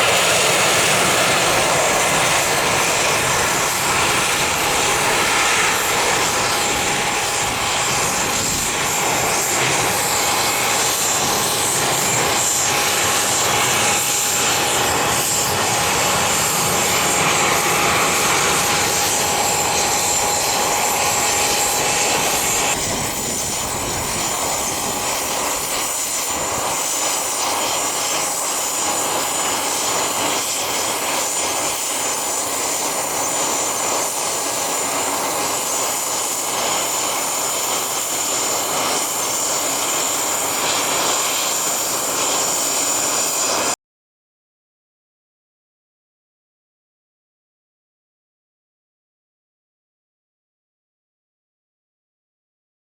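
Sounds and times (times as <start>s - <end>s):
jet engines whining: 0.0s - 43.8s.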